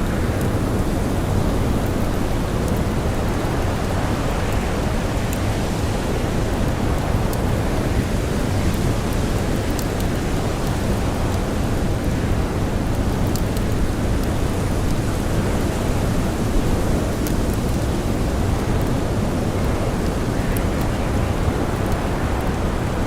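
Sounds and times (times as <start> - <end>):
campfire crackling: 0.0 - 23.0
heavy blizzard wind: 0.0 - 23.0.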